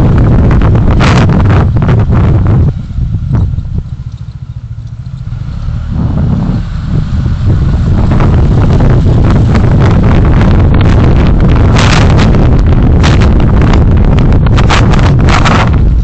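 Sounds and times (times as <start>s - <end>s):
vehicle engine rumble: 0.0s - 16.0s
wind buffeting microphone: 0.0s - 16.0s.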